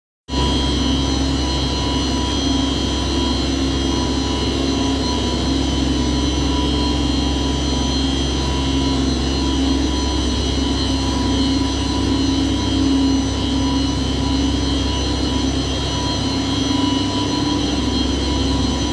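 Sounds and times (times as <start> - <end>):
water pumps droning: 0.3 - 18.9.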